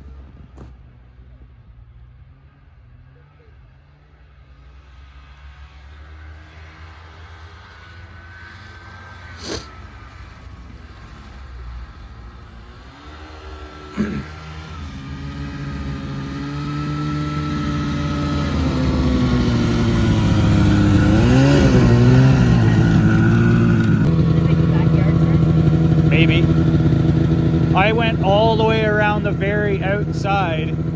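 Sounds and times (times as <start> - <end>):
snowmobile engine running: 2.8 - 30.9.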